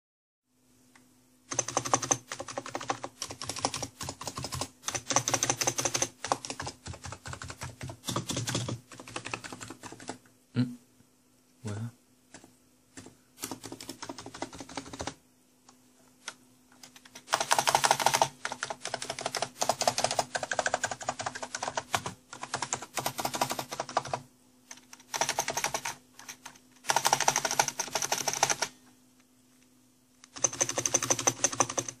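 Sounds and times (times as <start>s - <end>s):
faint steady hum: 0.5s - 32.0s.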